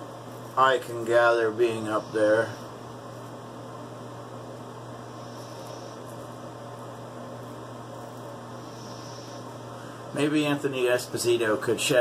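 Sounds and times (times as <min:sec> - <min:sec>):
fan humming and hissing: 0:00.0 - 0:12.0.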